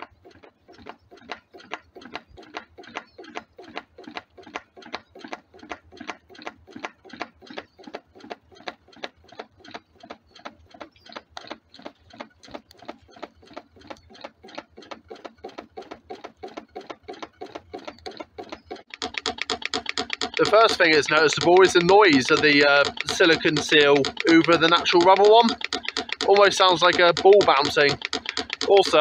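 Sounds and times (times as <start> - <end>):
stirling engine knocking: 0.0 - 29.0.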